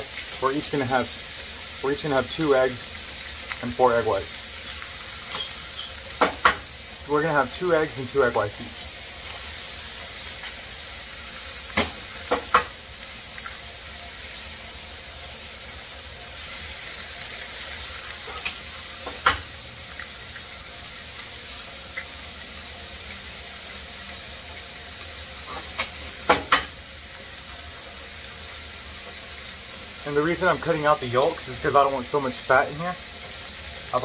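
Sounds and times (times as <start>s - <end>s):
food sizzling in a skillet: 0.0s - 34.0s.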